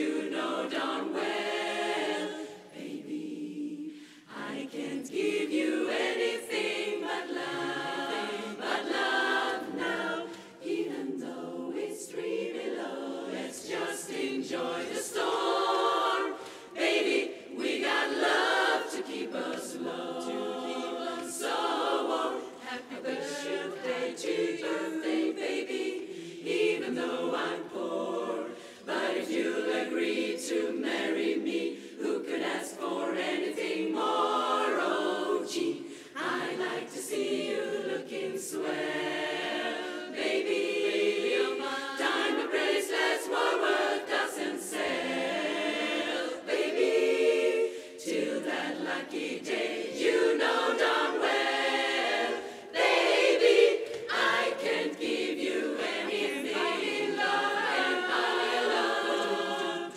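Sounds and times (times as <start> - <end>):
women's chorus singing a cappella: 0.0 - 59.9.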